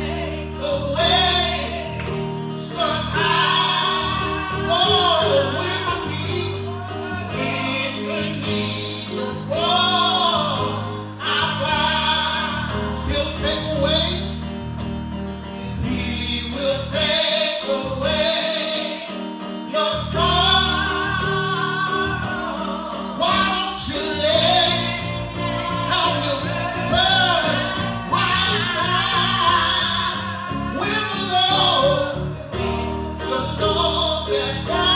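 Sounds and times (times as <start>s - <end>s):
gospel voices singing: 0.0s - 14.8s, 15.5s - 34.9s
steady bass line: 0.0s - 17.2s, 19.9s - 34.9s
instrumental accompaniment: 0.0s - 34.9s.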